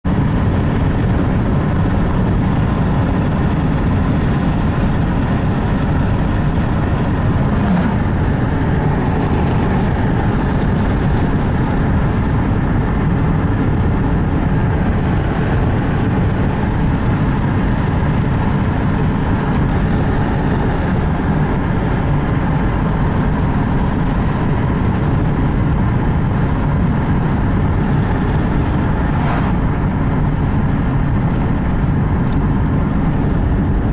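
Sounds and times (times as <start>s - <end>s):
car road and engine noise: 0.0s - 33.9s.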